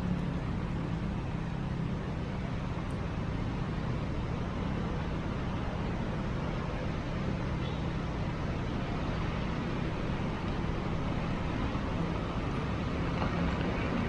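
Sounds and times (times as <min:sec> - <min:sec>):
vehicle engines humming: 0:00.0 - 0:14.0.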